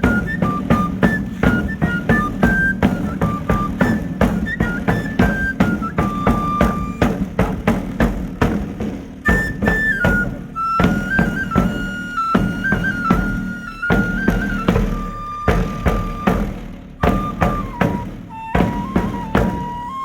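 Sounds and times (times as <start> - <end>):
shrill pipe melody: 0.0 - 8.2, 9.2 - 20.0
steady drum beat: 0.0 - 20.0.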